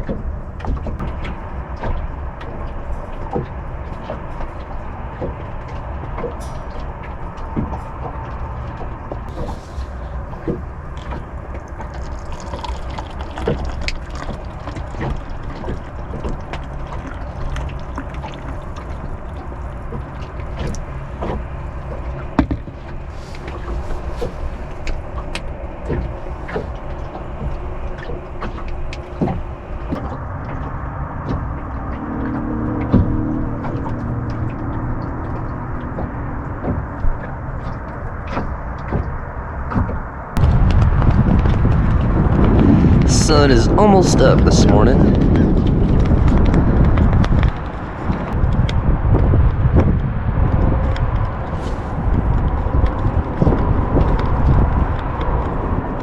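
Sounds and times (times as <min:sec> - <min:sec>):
steady low rumble: 0:00.0 - 0:56.0
water lapping against hull: 0:00.0 - 0:56.0.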